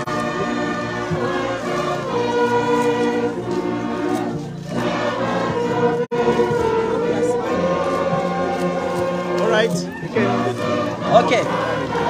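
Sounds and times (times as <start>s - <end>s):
choir singing long notes: 0.0s - 12.0s.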